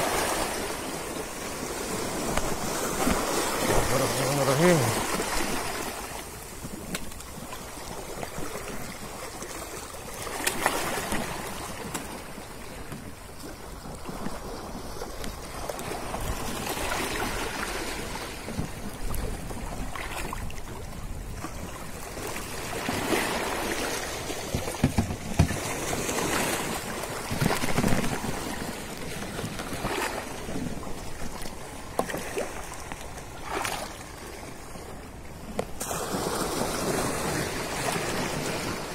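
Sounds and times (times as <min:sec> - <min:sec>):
person wading through water: 0:00.0 - 0:12.8, 0:13.4 - 0:35.0
small waves washing: 0:00.0 - 0:38.9.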